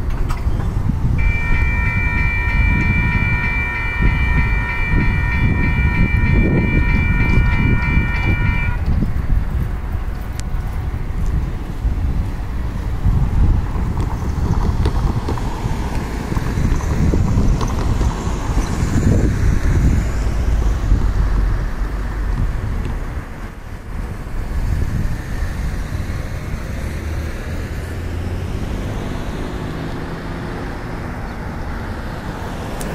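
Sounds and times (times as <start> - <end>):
cars on street: 0.0 - 32.9
steady engine hum: 0.0 - 32.9
wind buffeting microphone: 0.0 - 32.9.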